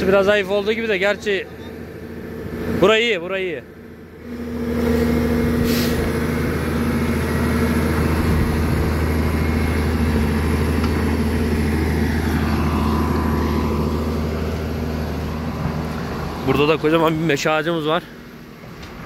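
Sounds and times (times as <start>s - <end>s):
digging machine engine running: 0.0s - 19.0s.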